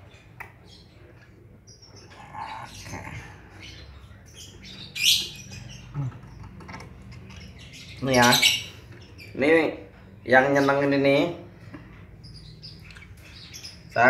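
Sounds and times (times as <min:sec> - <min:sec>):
bird chicks chirping: 0:00.0 - 0:14.0.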